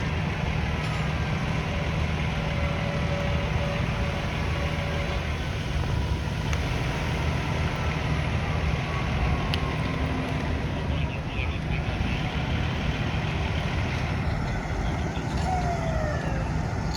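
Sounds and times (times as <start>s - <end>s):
road traffic rumble: 0.0s - 16.9s.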